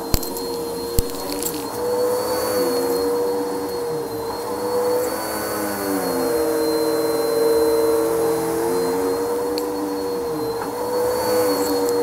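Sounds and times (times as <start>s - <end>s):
vacuum cleaner running on rug: 0.0s - 12.0s.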